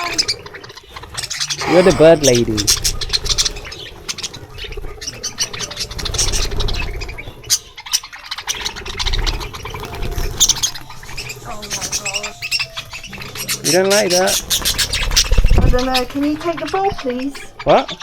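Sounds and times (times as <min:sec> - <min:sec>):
farm birds chirping and squawking: 0:00.0 - 0:18.0.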